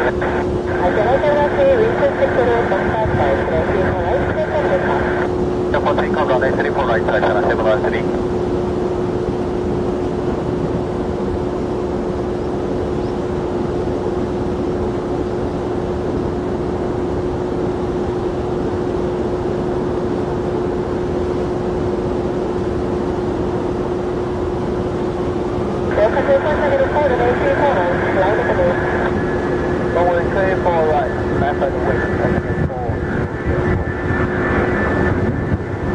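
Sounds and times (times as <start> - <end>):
jet engine rushing: 0.0 - 35.9.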